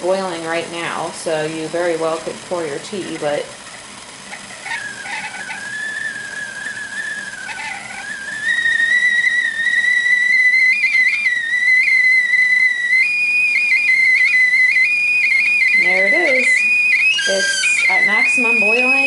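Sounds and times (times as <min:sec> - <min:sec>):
stovetop kettle whistling: 0:00.0 - 0:19.0.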